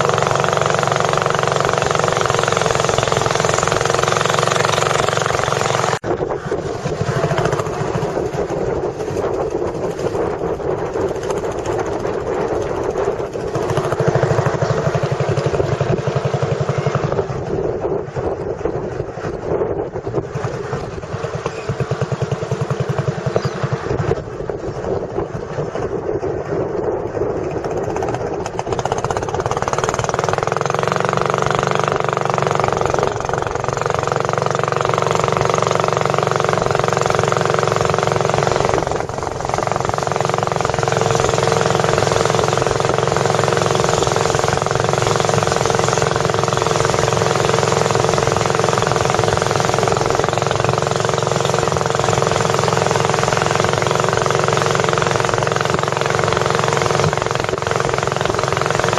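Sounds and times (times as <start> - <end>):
boat engine pulsing: 0.0 - 58.9.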